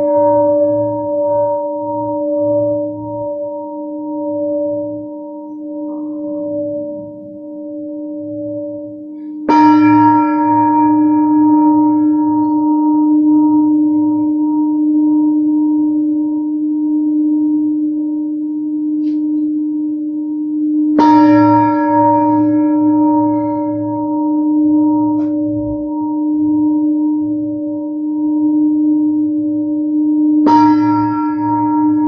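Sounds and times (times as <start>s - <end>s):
singing bowl ringing: 0.0s - 32.0s.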